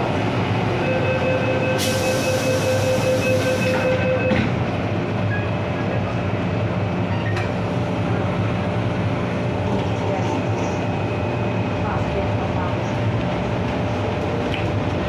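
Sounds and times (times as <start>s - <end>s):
steady train whine: 0.0s - 15.0s
train wheels rumbling on rail: 1.8s - 15.0s.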